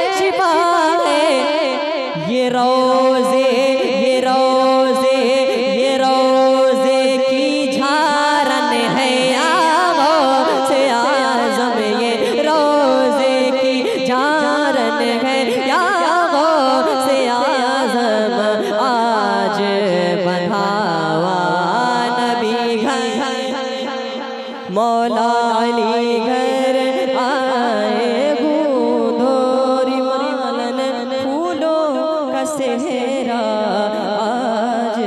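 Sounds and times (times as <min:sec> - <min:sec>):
young man singing into microphone: 0:00.0 - 0:35.0.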